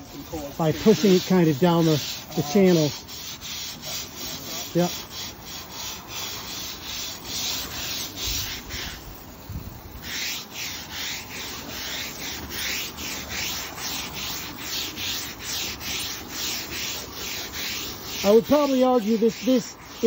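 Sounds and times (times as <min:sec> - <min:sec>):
brush scrubbing wet decking: 0:00.0 - 0:20.0.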